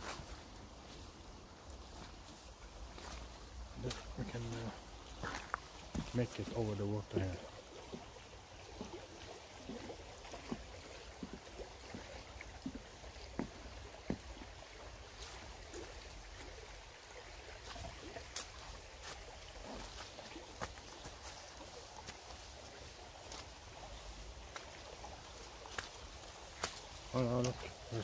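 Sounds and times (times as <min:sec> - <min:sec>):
footsteps on path: 0:00.0 - 0:16.6, 0:17.6 - 0:27.8
river flowing: 0:00.0 - 0:28.0.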